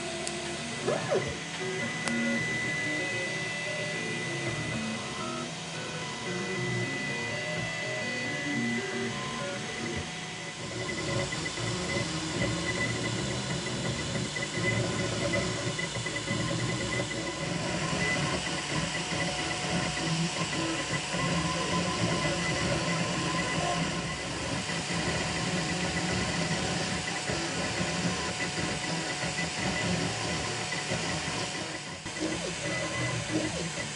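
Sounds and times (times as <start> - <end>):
faint motor tones: 0.0 - 33.9
stepper motors humming: 0.0 - 33.9.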